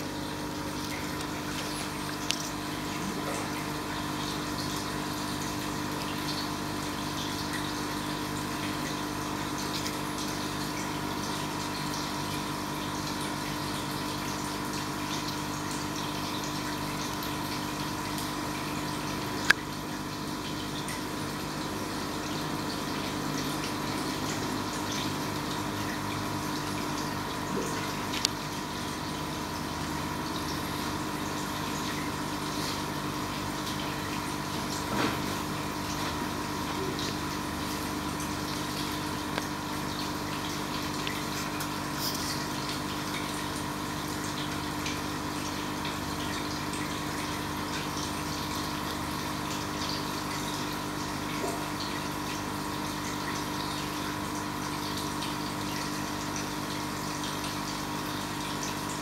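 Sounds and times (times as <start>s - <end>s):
aquarium filter pump hum: 0.0s - 59.0s
water trickling: 0.0s - 59.0s.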